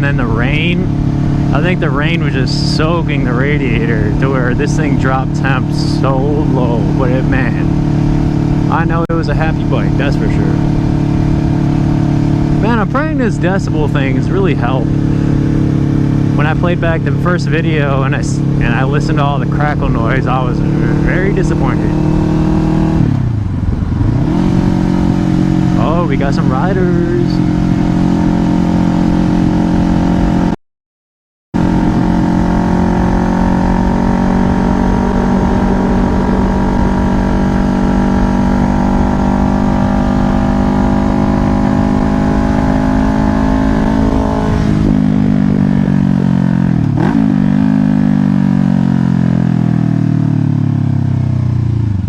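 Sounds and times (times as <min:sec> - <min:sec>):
motorcycle engine running: 0:00.0 - 0:30.6, 0:31.6 - 0:52.0
wind rumble on microphone: 0:00.0 - 0:30.6, 0:31.6 - 0:48.4.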